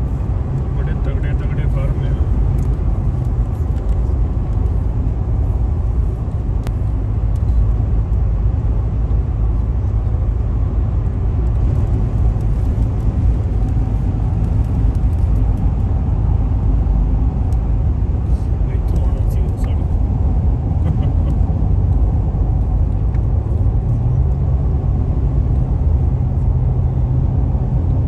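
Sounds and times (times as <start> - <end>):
car engine: 0.0 - 28.0
road and tyre noise: 0.0 - 28.0.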